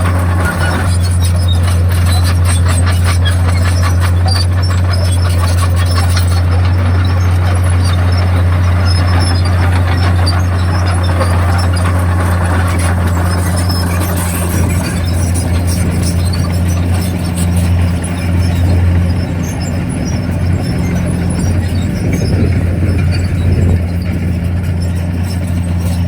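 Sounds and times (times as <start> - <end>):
bulldozer diesel engine drone: 0.0 - 26.0
steel tracks clattering and squealing: 0.0 - 26.0.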